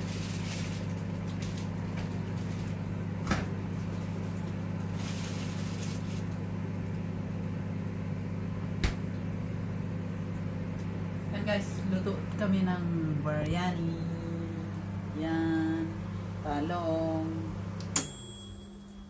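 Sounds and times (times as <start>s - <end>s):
appliance electrical hum: 0.0s - 19.0s.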